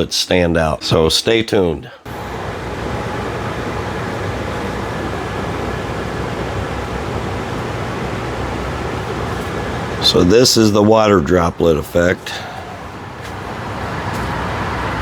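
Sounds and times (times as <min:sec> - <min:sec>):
ventilation fan rushing air: 0:02.0 - 0:15.0
low hum: 0:02.1 - 0:15.0.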